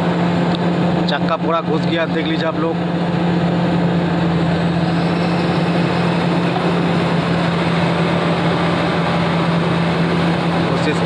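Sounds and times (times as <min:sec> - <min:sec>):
excavator diesel engine straining: 0:00.0 - 0:11.0.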